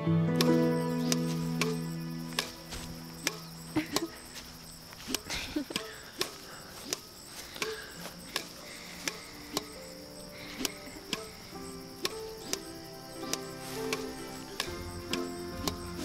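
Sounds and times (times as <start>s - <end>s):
faint music tones: 0.0s - 16.0s
sharp ticks: 0.4s - 16.0s.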